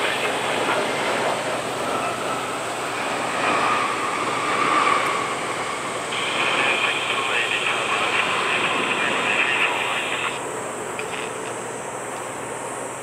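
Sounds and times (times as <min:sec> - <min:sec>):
faint high whine: 0:00.0 - 0:13.0
jet engines roaring: 0:00.0 - 0:13.0.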